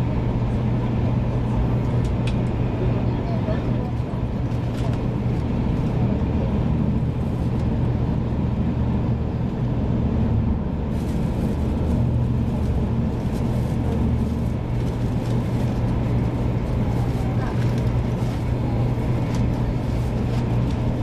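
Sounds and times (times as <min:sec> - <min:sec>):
train rumble inside cabin: 0:00.0 - 0:21.0.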